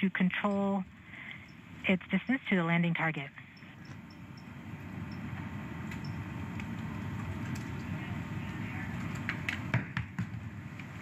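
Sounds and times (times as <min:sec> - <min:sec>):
low rumbling room noise: 0:00.0 - 0:11.0.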